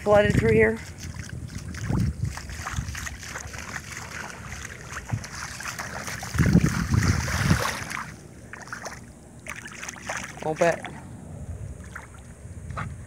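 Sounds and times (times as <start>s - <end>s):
splashing through floodwater and mud: 0.0s - 12.4s.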